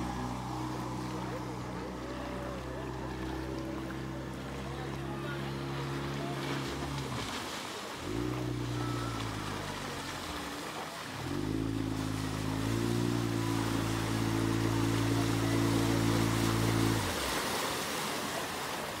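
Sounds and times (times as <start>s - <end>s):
outboard motor running: 0.0s - 17.9s
rushing water and wind: 0.0s - 19.0s.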